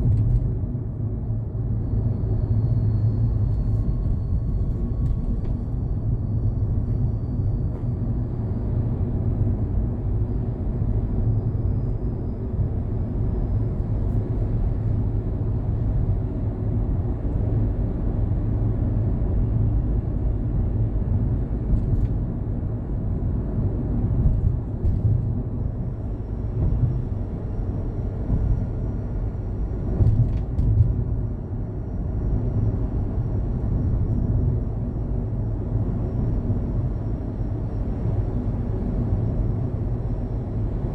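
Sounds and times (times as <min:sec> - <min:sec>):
van engine low rumble: 0:00.0 - 0:40.9.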